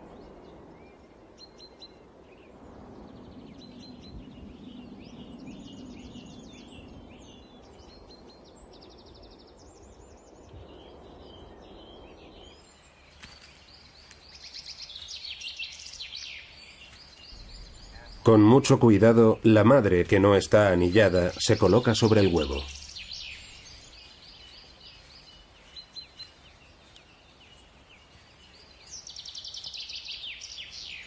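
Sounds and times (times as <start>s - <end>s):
soft low rushing noise: 0.0s - 29.5s
songbirds chirping and trilling: 0.0s - 31.0s.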